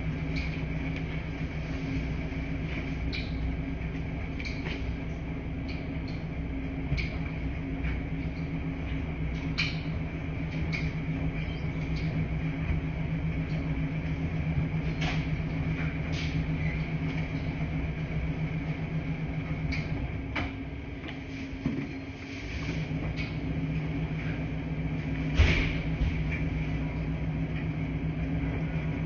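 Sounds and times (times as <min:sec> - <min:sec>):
washing machines humming: 0:00.0 - 0:29.0.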